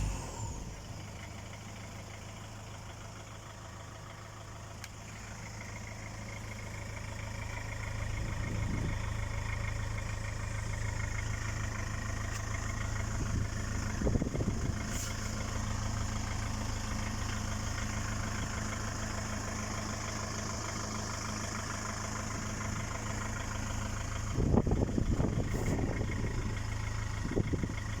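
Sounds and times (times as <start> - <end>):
pickup engine idling: 0.0 - 28.0.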